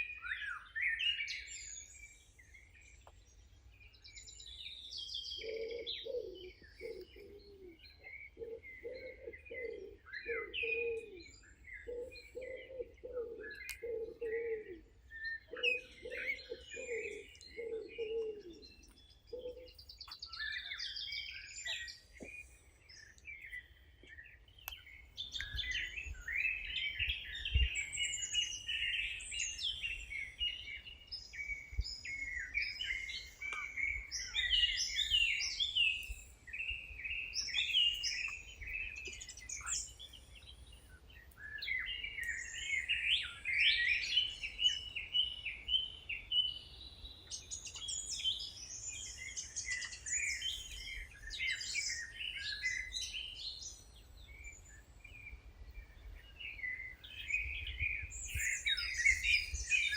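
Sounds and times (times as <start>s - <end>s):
birds chirping and singing: 0.0s - 59.9s
low repeated bird call: 3.9s - 59.9s.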